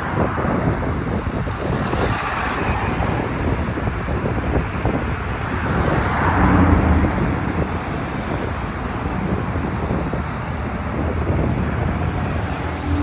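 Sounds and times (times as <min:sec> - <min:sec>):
highway traffic: 0:00.0 - 0:13.0
wind buffeting microphone: 0:00.0 - 0:13.0
vehicle passing close: 0:01.4 - 0:13.0.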